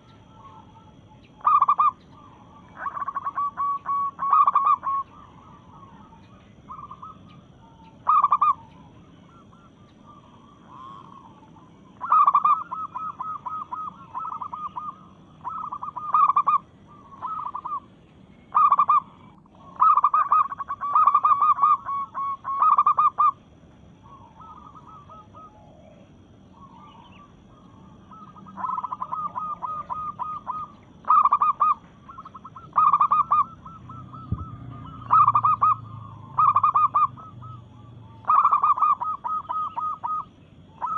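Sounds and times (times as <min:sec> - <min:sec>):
dove cooing: 0:00.0 - 0:23.4, 0:24.0 - 0:40.9.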